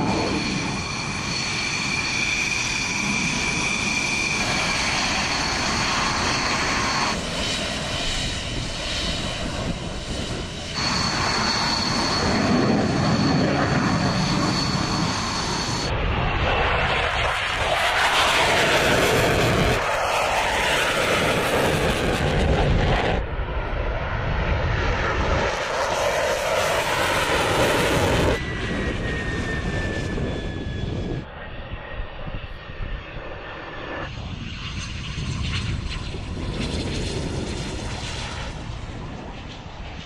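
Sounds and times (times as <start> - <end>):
falling jet whine: 0.0 - 40.0
fighter jet engines roaring: 0.0 - 40.0.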